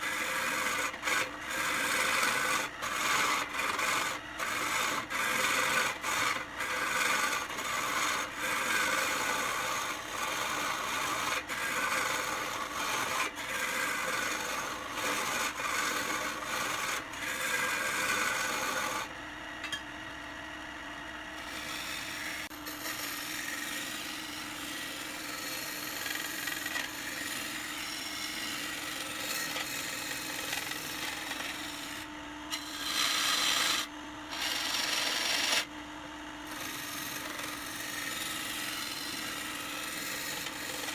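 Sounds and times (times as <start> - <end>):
lathe tool scraping wood: 0.0 - 19.2, 21.4 - 35.7, 36.4 - 40.9.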